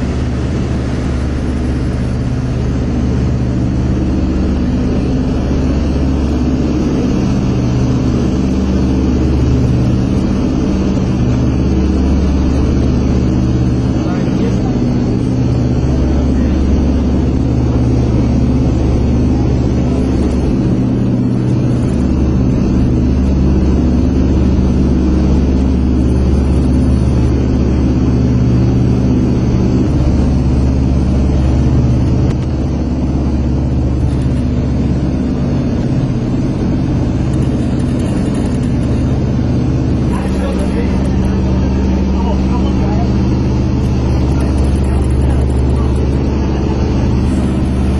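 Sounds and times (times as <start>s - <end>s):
piston aircraft engines droning: 0.0s - 47.9s.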